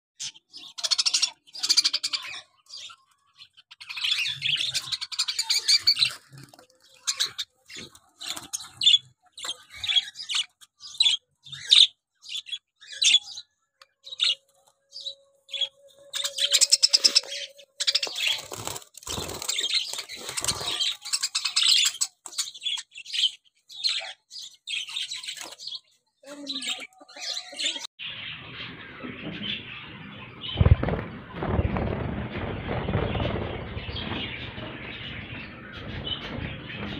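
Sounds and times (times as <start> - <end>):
budgerigars chirping and chattering: 0.2 - 36.9.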